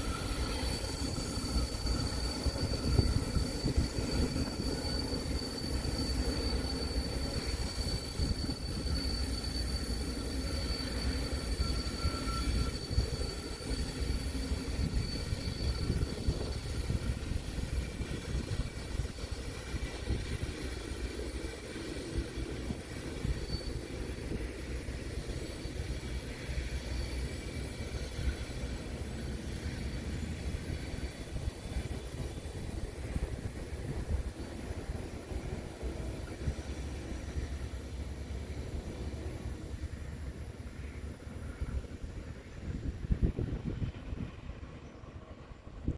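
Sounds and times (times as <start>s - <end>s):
freight train rumbling on rails: 0.0s - 45.9s
train wheels squealing: 0.0s - 45.9s.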